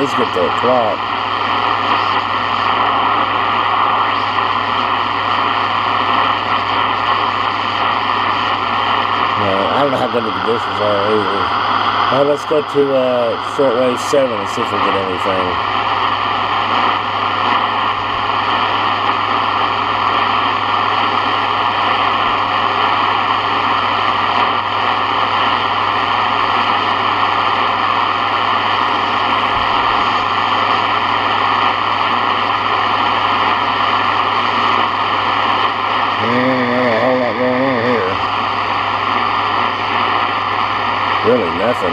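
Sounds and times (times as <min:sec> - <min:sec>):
radio static hiss: 0:00.0 - 0:41.9.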